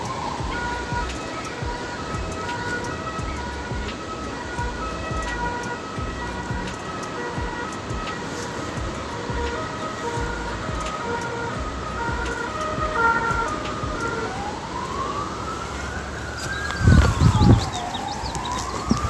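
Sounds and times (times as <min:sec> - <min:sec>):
gliding wailing tone: 0:00.0 - 0:19.0
loud low thumps: 0:00.0 - 0:19.0.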